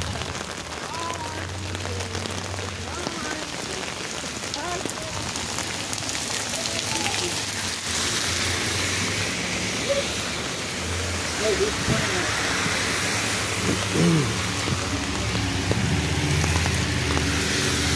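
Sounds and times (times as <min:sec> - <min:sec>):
rain on pavement: 0:00.0 - 0:17.9.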